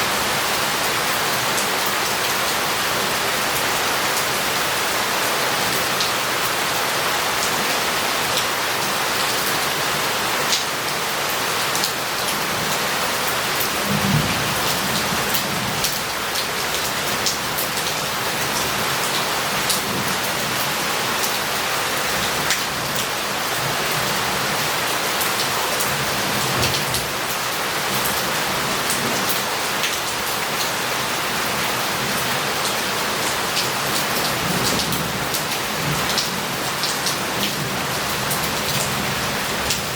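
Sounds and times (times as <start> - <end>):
heavy rain on roof and street: 0.0 - 39.9.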